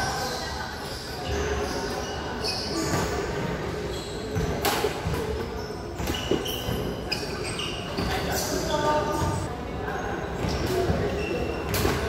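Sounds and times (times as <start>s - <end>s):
indoor hall hubbub: 0.0s - 12.0s.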